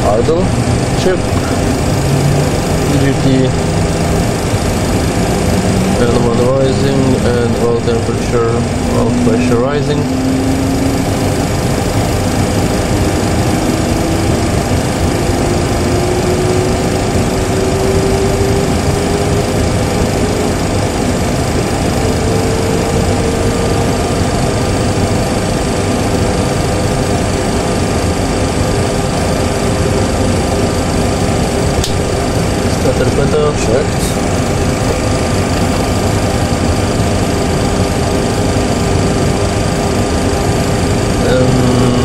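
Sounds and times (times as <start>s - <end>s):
jet engine whine rising: 0.0s - 42.0s
loud steady rushing noise: 0.0s - 42.0s.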